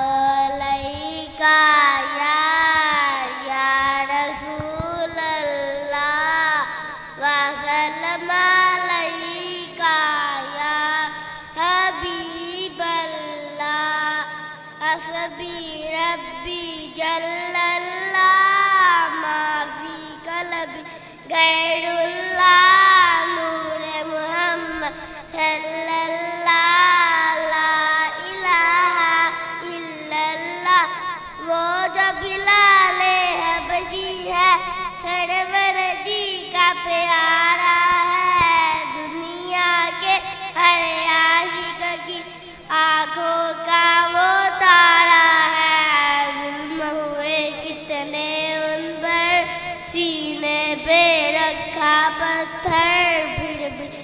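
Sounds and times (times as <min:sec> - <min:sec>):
boy singing through microphone: 0:00.0 - 0:54.0
faint steady hum: 0:00.0 - 0:54.0.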